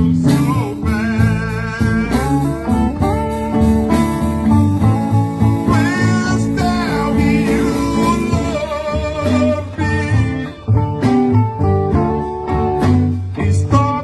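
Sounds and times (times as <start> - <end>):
bending lead guitar line: 0.0 - 14.0
live blues band: 0.0 - 14.0
pulsing bass line: 0.0 - 14.0.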